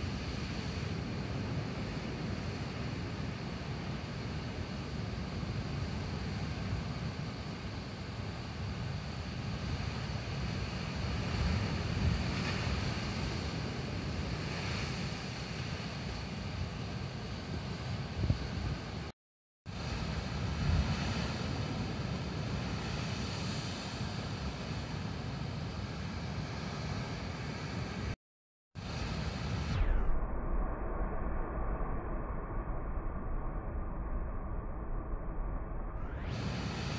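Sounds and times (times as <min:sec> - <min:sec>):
wind rumbling on microphone: 0:00.0 - 0:19.1, 0:19.7 - 0:28.2, 0:28.8 - 0:36.9.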